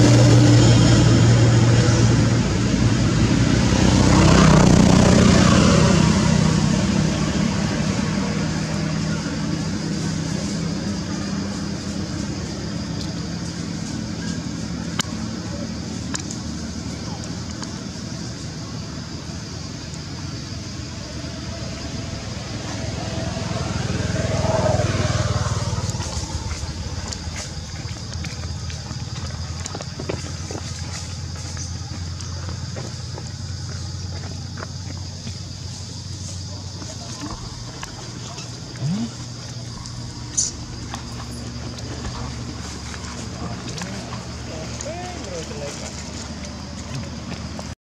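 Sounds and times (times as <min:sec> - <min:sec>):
passing vehicle engine hum: 0:00.0 - 0:47.8.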